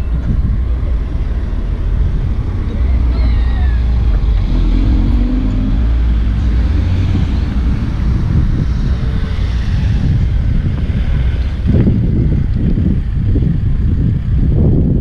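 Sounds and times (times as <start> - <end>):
cars driving past: 0.0 - 14.0
engine hum: 0.0 - 15.0
steady low rumble: 0.0 - 15.0.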